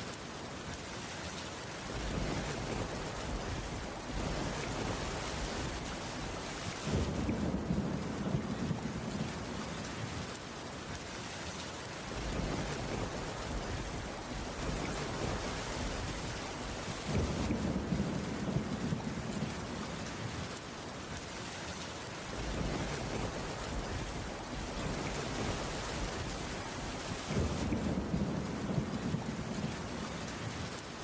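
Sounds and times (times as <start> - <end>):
rain on wooden roof: 0.0 - 31.0.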